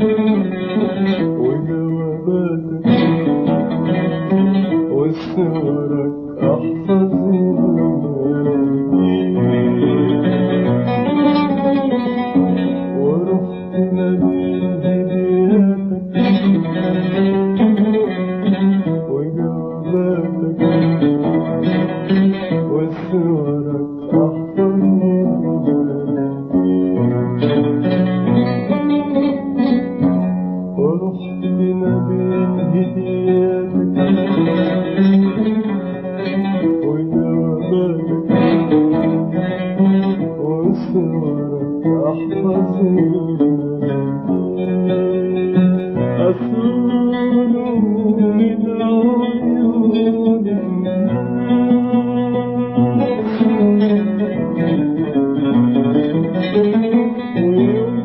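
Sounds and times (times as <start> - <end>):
oud melody: 0.0 - 58.0.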